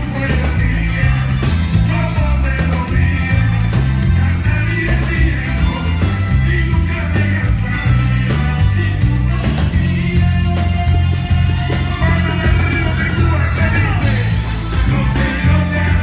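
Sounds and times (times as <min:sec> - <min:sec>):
person singing: 0:00.0 - 0:16.0
reggaeton music through loudspeakers: 0:00.0 - 0:16.0.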